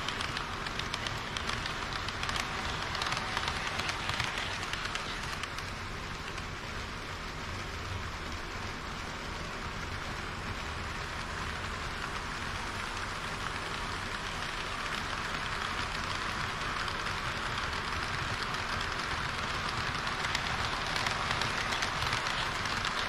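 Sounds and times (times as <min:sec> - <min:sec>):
model train wheels hissing on rails: 0:00.0 - 0:23.0.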